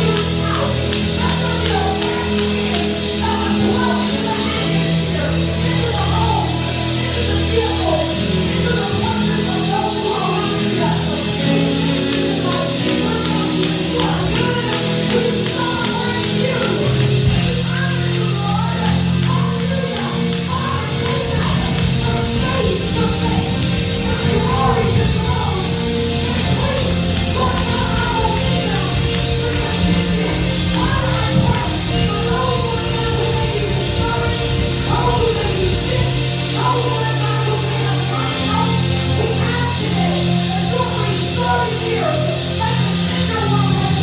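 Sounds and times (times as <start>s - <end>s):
bass: 0.0s - 44.0s
live gospel band: 0.0s - 44.0s
organ or keyboard chords: 0.0s - 44.0s
voices singing: 0.0s - 44.0s.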